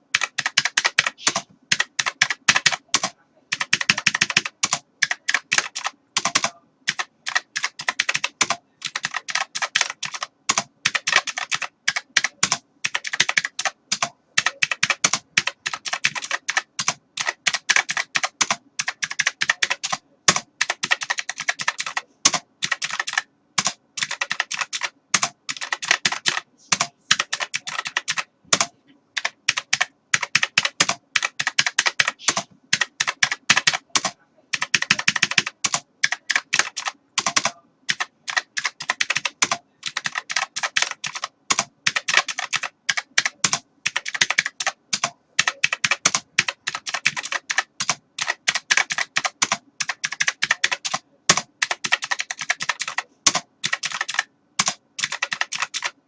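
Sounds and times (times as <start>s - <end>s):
typing on computer keyboard: 0.0s - 56.0s.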